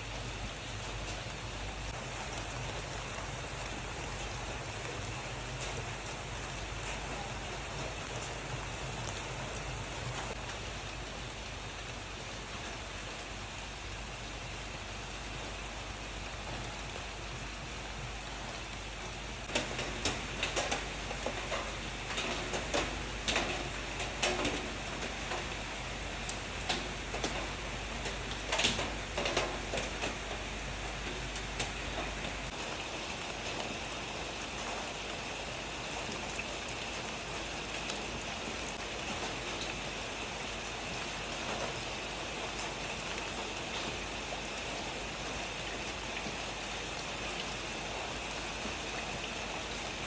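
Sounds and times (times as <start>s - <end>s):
light rain hissing: 0.0s - 50.0s.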